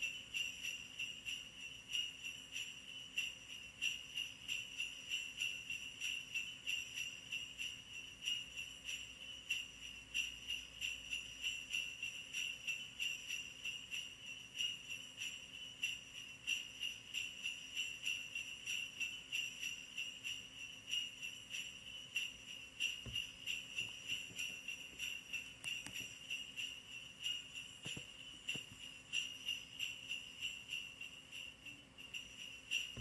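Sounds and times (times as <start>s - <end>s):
sleigh bells jingling: 0.0s - 33.0s.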